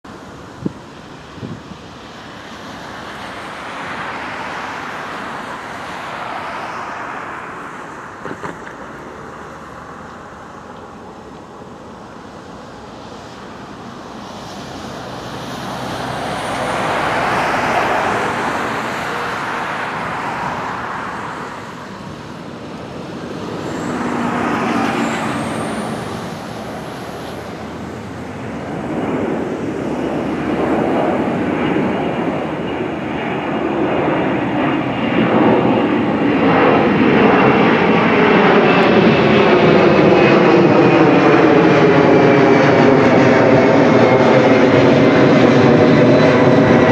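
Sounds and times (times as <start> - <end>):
jet engines at takeoff thrust: 0.0 - 46.9.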